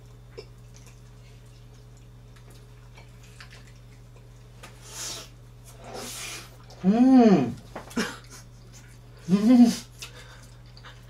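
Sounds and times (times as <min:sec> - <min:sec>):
people chewing: 0:00.0 - 0:04.8, 0:05.7 - 0:11.0
steady low hum: 0:00.0 - 0:11.0.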